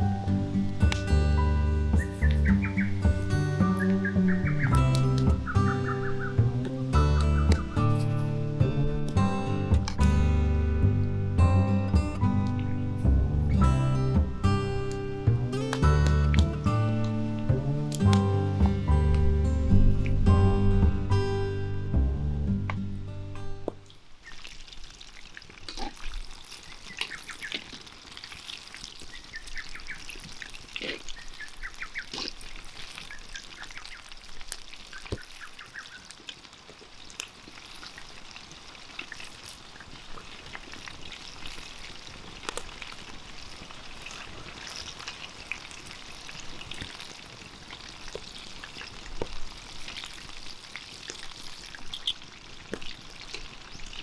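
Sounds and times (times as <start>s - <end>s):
chicken deep-frying in oil: 0.0s - 21.2s, 23.8s - 54.0s.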